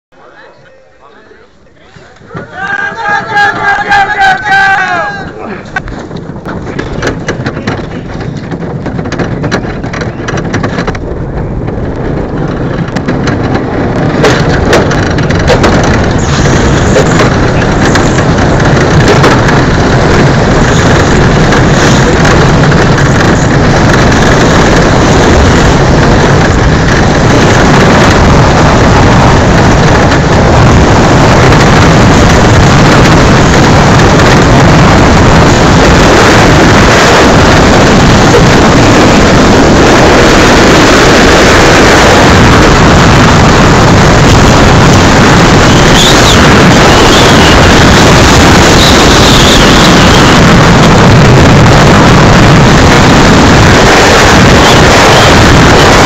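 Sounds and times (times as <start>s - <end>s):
rush of air: 2.2s - 56.0s
bobsleigh runners grinding on ice: 2.3s - 56.0s.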